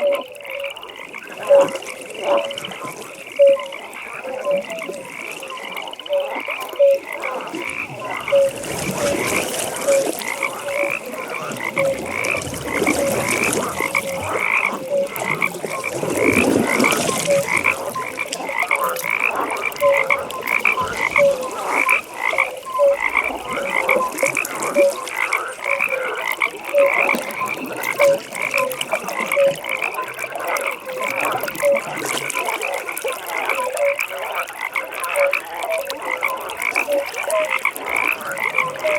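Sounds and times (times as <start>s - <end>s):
high-pitched frog calls: 0.0s - 38.9s
low frog croaks: 0.0s - 38.9s.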